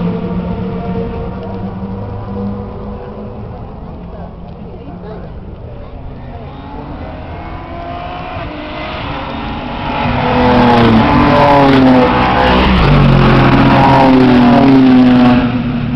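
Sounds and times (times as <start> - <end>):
race car engines passing: 0.0 - 15.9.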